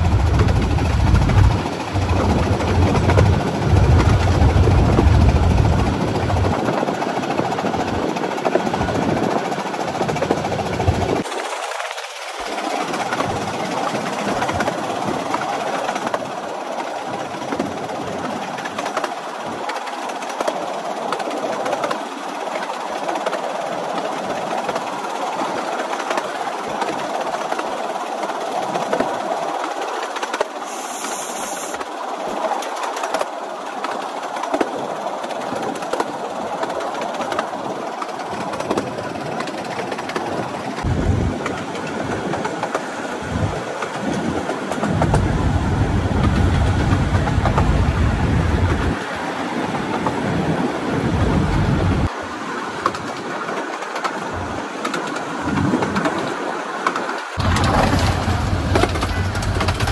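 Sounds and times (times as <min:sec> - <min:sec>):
rumble of train wheels on rail: 0:00.0 - 0:59.9.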